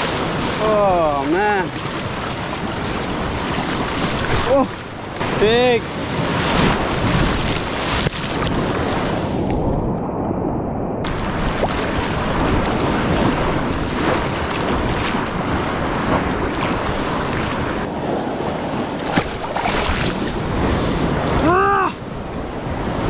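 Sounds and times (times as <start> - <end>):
sea water churning and splashing: 0.0 - 23.0
wind buffeting microphone: 0.0 - 23.0.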